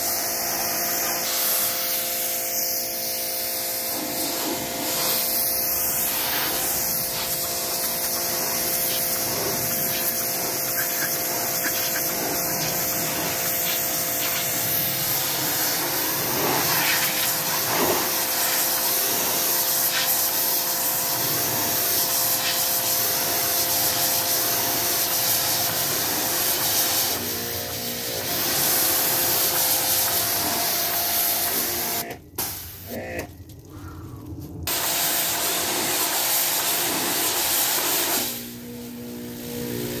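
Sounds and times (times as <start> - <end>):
pressure washer spraying water: 0.0 - 32.9, 34.7 - 40.0.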